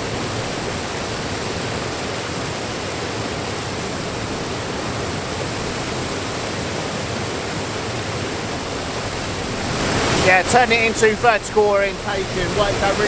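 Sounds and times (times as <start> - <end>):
waterfall rushing onto rocks: 0.0 - 13.0.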